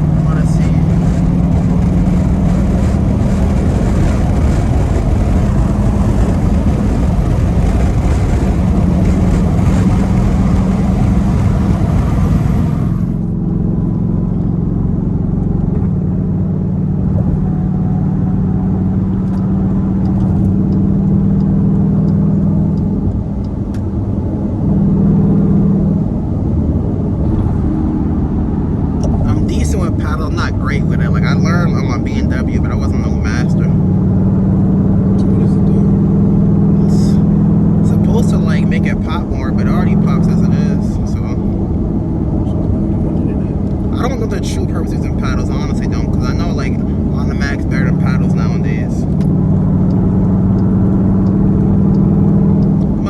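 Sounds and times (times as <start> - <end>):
car exhaust droning: 0.0 - 53.0.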